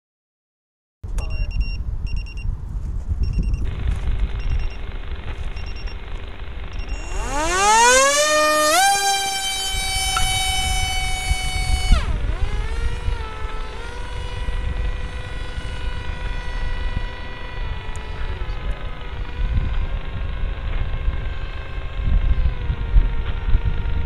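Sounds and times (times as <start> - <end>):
electric motor propeller whine: 3.6 - 24.0.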